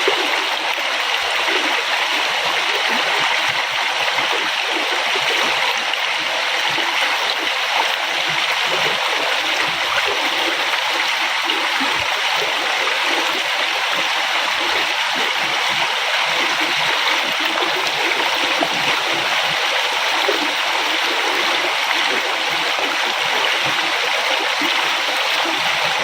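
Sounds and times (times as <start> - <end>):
river water splashing over rocks: 0.0 - 26.0.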